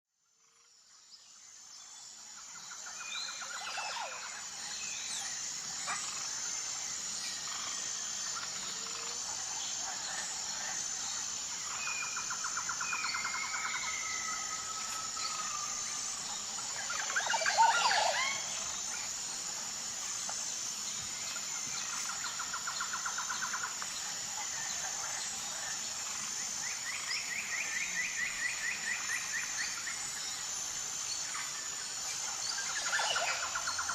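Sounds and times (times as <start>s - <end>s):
insects chirring: 0.3s - 33.9s.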